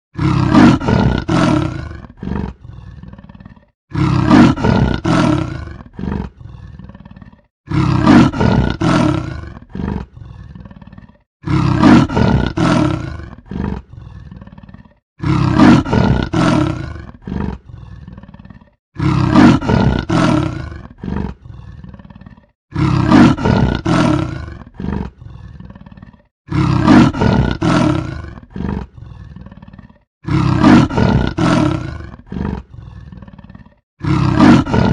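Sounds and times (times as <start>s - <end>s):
leopard roaring: 0.2s - 34.9s.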